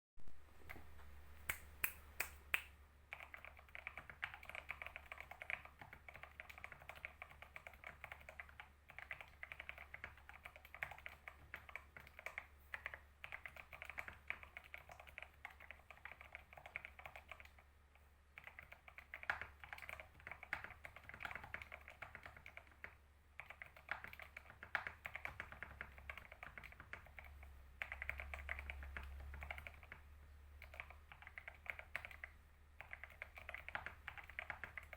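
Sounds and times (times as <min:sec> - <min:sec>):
fast typing on keyboard: 0:03.1 - 0:17.7, 0:18.3 - 0:34.9.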